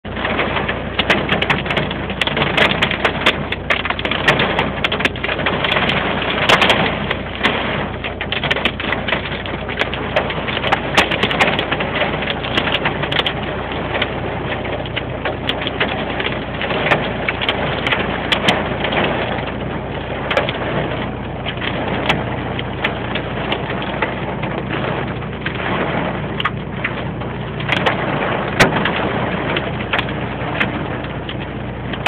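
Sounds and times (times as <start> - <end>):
hailstones clattering: 0.1 - 32.0.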